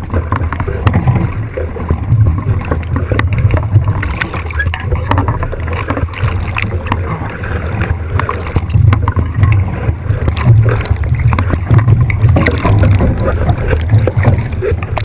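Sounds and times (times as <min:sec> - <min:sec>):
wind and water rushing past hull: 0:00.0 - 0:15.0.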